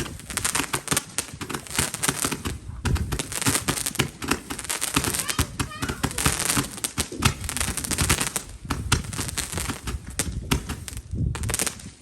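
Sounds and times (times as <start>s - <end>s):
firecrackers popping: 0.0s - 12.0s.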